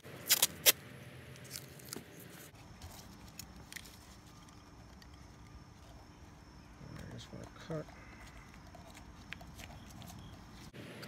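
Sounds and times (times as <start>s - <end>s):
tape crackling: 0.0s - 11.0s.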